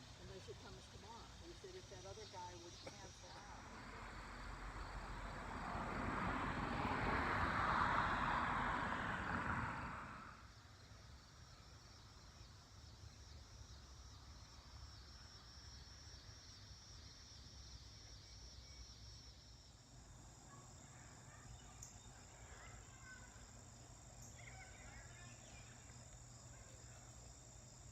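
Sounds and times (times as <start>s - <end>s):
high steady insect trill: 0.0s - 27.9s
insects chirping: 0.0s - 27.9s.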